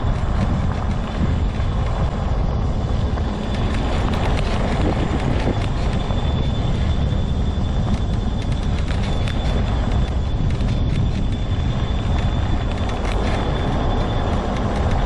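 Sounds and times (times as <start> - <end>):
thin high whine: 0.0 - 15.0
wheels rumbling: 0.0 - 15.0.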